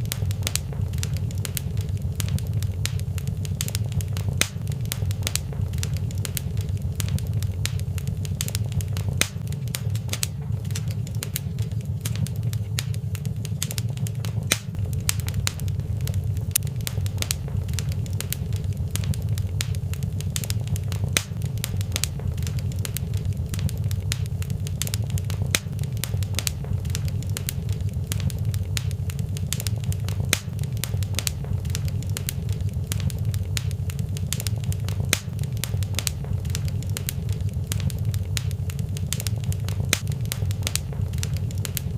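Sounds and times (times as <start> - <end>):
fireplace fire crackling: 0.0 - 41.9
low rumble: 0.0 - 41.9.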